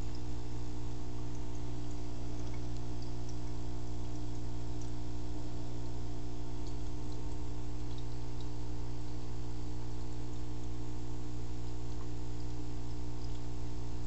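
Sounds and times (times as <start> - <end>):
aquarium pump humming: 0.0 - 14.0
water and bubbles ticking: 0.0 - 14.0.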